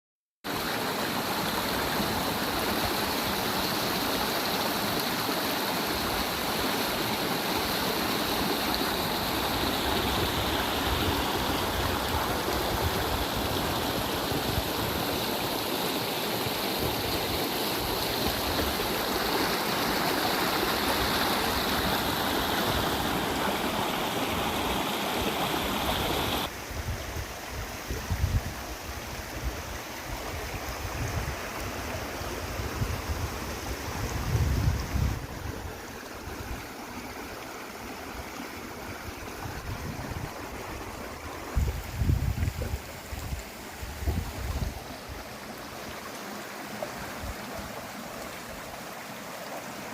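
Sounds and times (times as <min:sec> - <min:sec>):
waterfall rushing: 0:00.5 - 0:26.5, 0:34.8 - 0:49.9.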